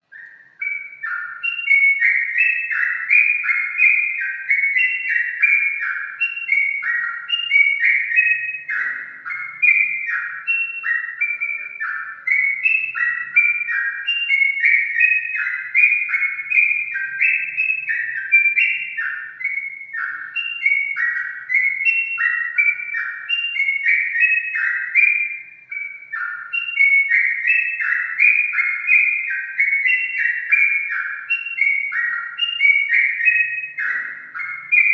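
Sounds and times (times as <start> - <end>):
bird singing chirping phrases: 0.0 - 34.9.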